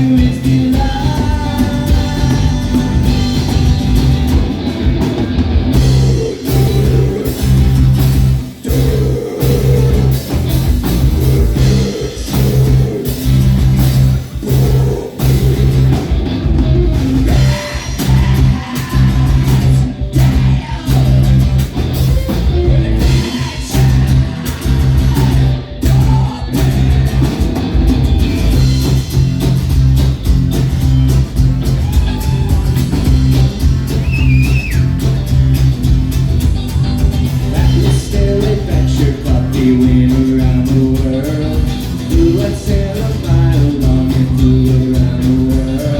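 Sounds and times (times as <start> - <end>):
drum kit: 0.0 - 45.9
electric guitar: 0.0 - 45.9
steady bass line: 0.0 - 45.9.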